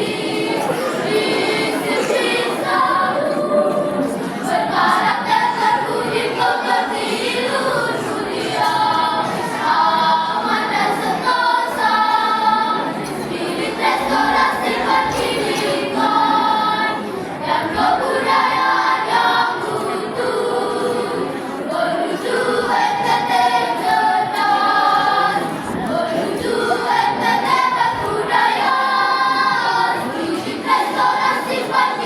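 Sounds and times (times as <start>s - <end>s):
children's choir singing: 0.0s - 32.0s.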